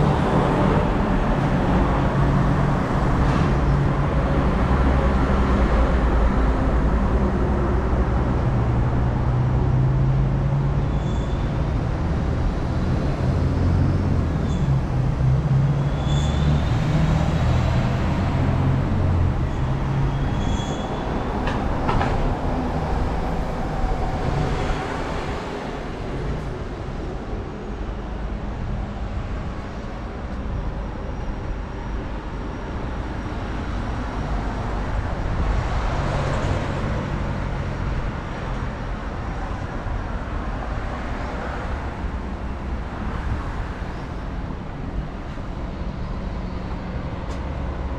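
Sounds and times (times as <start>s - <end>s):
heavy vehicle engine: 0.0s - 47.9s
road traffic rumbling: 0.0s - 47.9s.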